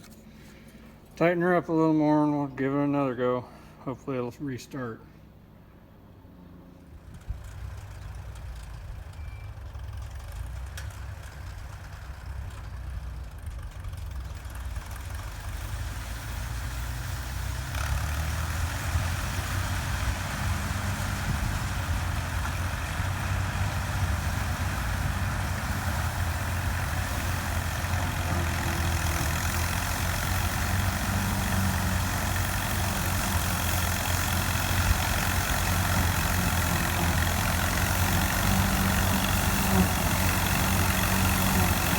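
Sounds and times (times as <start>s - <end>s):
combine harvester engine hum: 0.0s - 41.9s.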